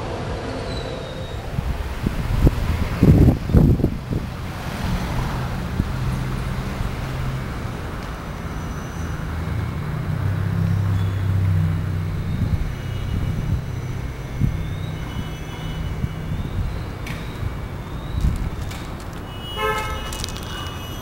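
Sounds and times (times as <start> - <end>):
motor traffic engine hum: 0.0 - 21.0.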